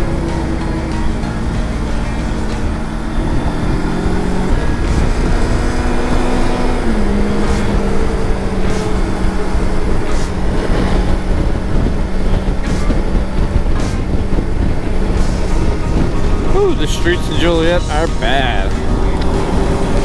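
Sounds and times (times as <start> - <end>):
motorcycle engine running: 0.0 - 20.0
road and wind rumble: 0.0 - 20.0.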